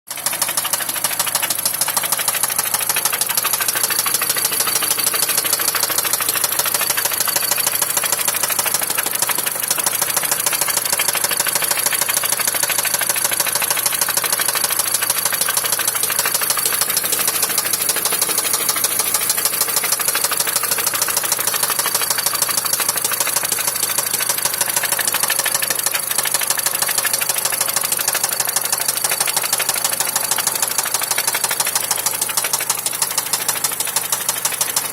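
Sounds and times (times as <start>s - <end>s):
engine knocking: 0.1s - 34.9s.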